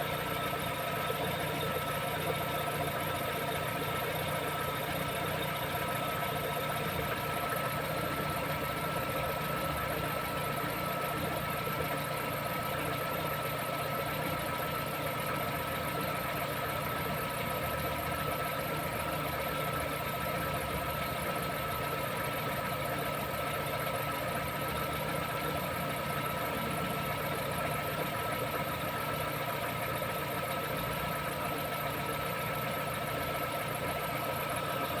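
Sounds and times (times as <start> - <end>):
car engine idling: 0.0 - 35.0
squeaking alternator belt: 0.0 - 35.0.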